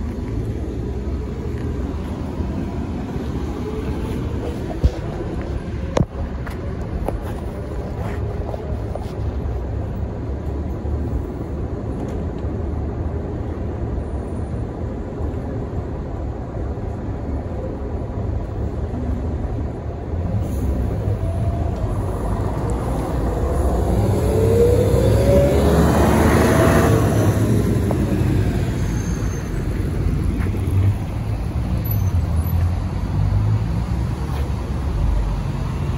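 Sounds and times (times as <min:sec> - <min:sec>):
bus engine rumbling: 0:00.0 - 0:35.9.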